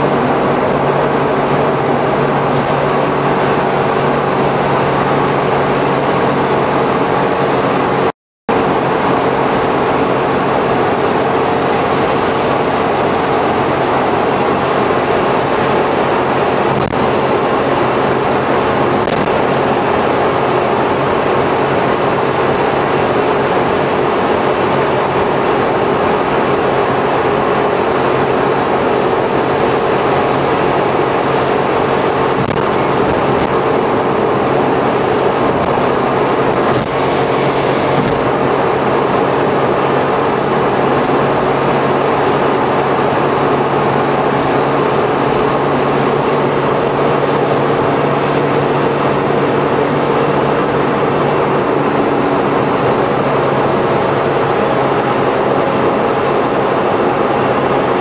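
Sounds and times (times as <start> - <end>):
tyre and wind noise: 0.0 - 58.0
van engine low hum: 0.0 - 58.0.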